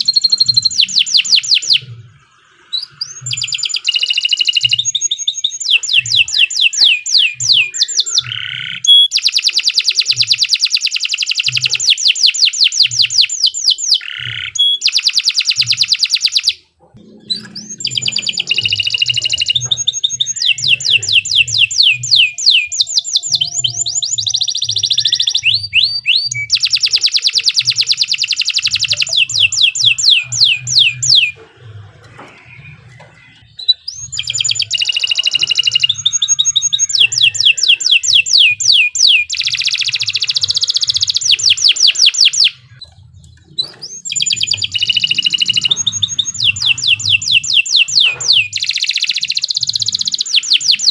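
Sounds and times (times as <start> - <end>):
canary singing rapid trills: 0.0 - 50.9.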